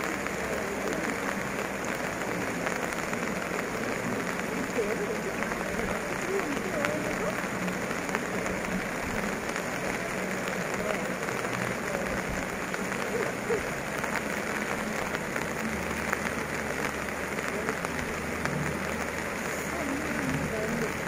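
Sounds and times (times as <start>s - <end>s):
flooded river rushing: 0.0s - 21.0s
heavy rain hissing: 0.0s - 21.0s.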